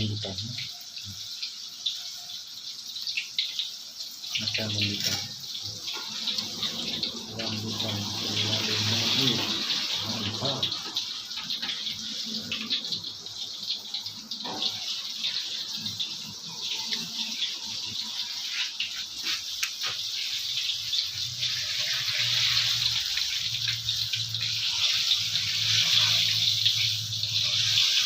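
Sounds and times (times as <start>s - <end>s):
tap water running into sink: 0.0s - 28.0s.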